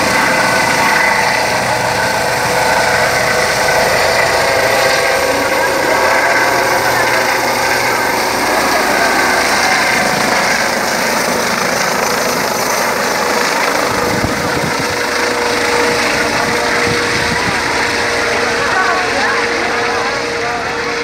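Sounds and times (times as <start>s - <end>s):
helicopter taking off: 0.0s - 21.0s.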